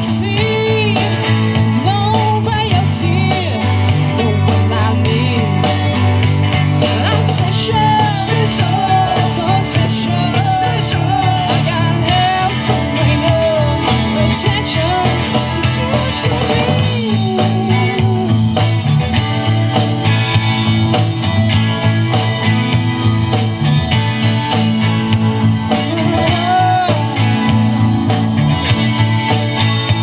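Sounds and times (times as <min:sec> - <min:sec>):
bass guitar: 0:00.0 - 0:30.0
drum kit beat: 0:00.0 - 0:30.0
electric guitars: 0:00.0 - 0:30.0
keyboard: 0:00.0 - 0:30.0.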